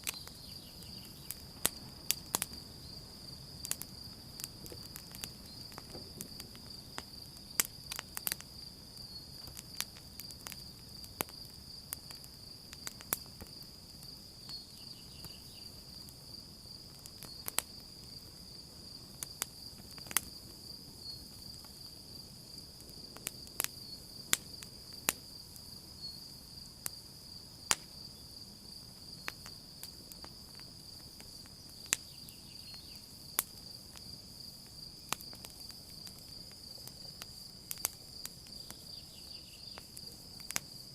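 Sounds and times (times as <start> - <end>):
campfire crackling and popping: 0.0 - 40.9
crickets trilling: 0.0 - 40.9.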